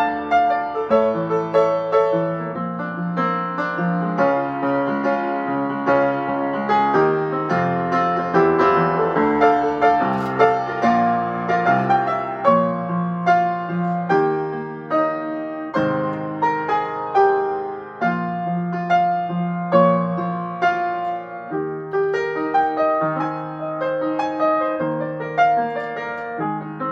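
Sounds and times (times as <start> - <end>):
upright piano playing: 0.0 - 26.9.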